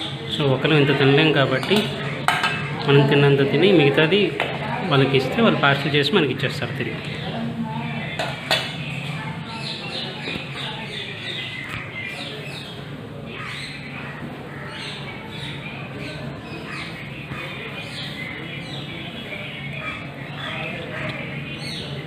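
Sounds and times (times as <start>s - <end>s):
birds chirping and squawking: 0.0s - 22.0s.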